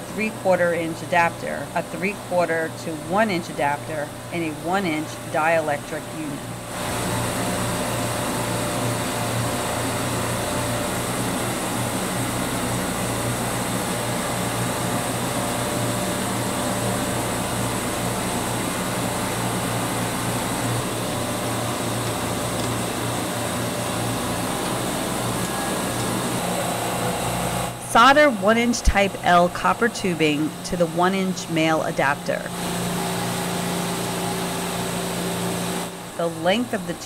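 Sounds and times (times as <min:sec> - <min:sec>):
refrigeration machinery drone: 0:00.0 - 0:37.0.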